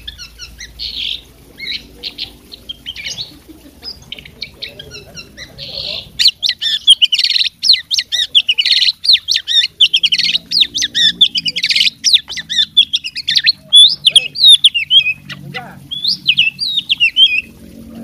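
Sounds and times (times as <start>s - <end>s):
songbird singing whistled notes: 0.0s - 17.6s
harsh rasping bird calls: 0.0s - 18.0s.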